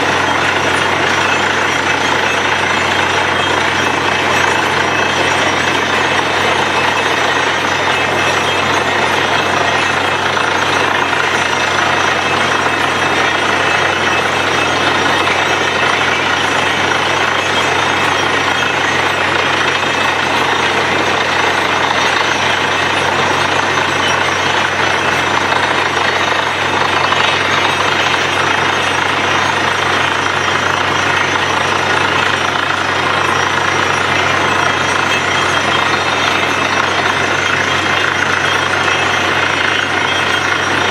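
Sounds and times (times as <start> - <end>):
drilling machine running: 0.0 - 40.9.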